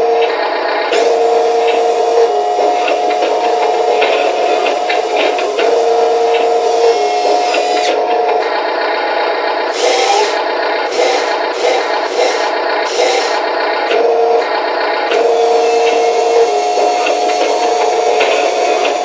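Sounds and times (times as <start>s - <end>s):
toy electric motors whining: 0.0s - 8.6s, 9.6s - 19.0s.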